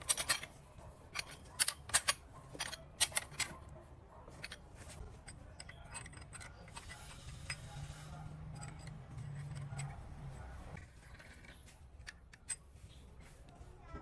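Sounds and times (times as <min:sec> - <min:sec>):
metal parts clicking and clinking: 0:00.0 - 0:10.2, 0:10.8 - 0:13.0.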